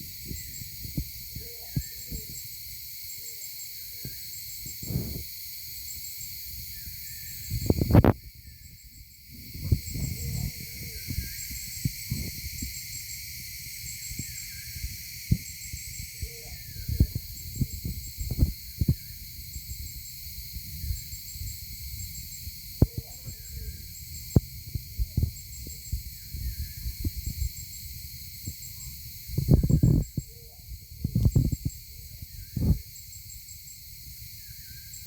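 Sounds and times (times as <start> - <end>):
insects chirping: 0.0 - 35.0
steady high hiss: 0.0 - 35.0.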